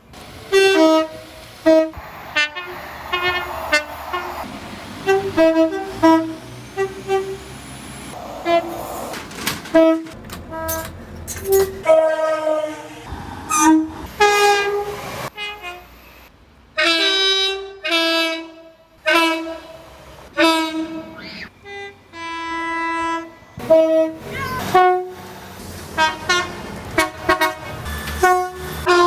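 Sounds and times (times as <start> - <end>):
rail noise: 0.0 - 29.0
train horn short blasts: 0.5 - 4.4, 5.0 - 7.4, 9.7 - 15.9, 16.8 - 19.8, 20.4 - 25.2, 26.0 - 29.0.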